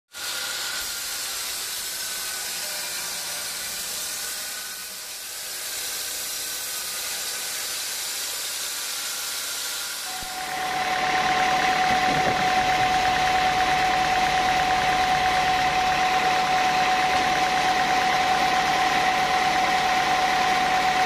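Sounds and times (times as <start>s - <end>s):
band saw blade cutting log: 0.1s - 21.0s.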